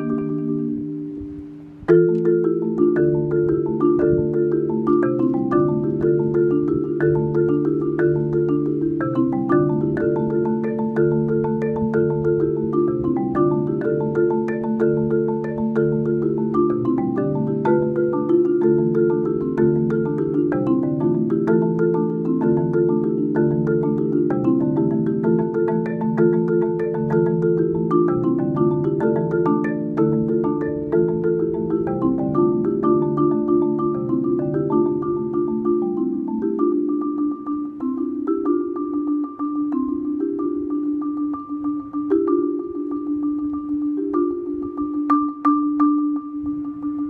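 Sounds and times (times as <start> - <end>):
solo marimba: 0.0 - 47.0.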